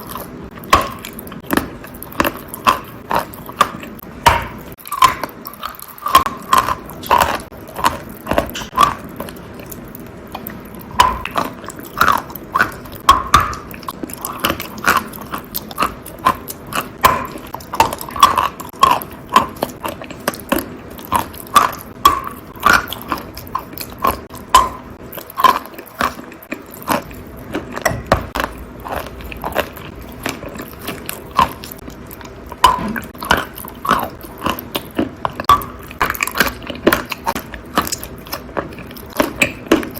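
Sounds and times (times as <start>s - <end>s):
wet crunching of chewing chalk: 0.0s - 39.9s.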